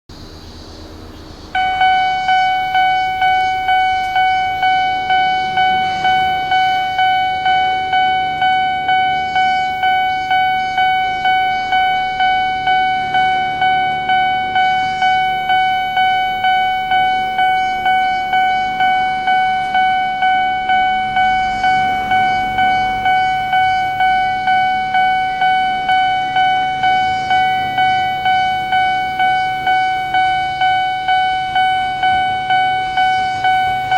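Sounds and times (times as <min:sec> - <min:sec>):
level crossing alarm bell: 0:01.5 - 0:33.9.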